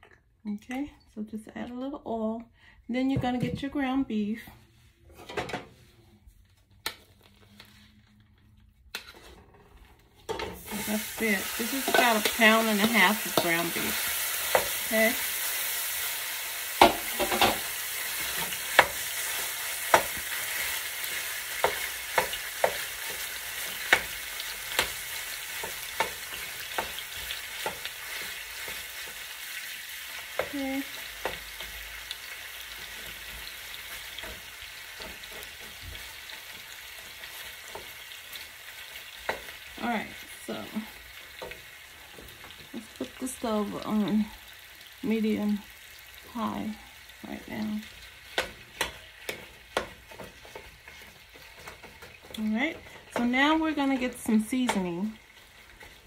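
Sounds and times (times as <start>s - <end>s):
meat sizzling: 10.3s - 56.0s.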